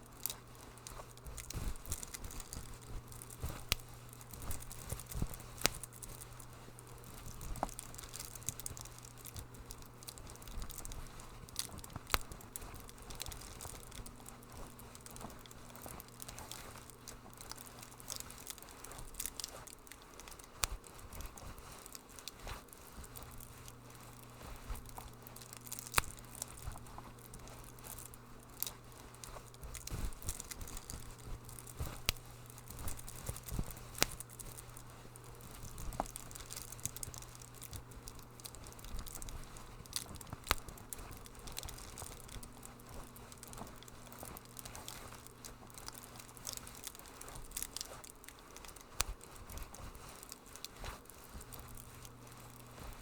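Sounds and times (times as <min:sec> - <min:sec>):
steady low hum: 0:00.0 - 0:53.0
wood fire crackling: 0:00.0 - 0:53.0.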